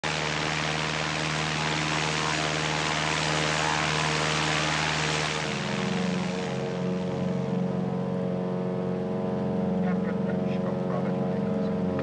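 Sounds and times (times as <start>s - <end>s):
light aeroplane engine drone: 0.0s - 12.0s.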